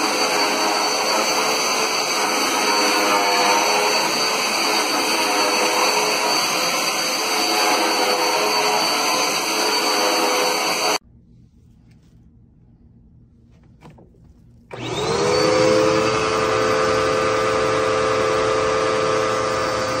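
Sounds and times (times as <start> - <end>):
vacuum cleaner motor whine: 0.0 - 11.0, 14.7 - 20.0.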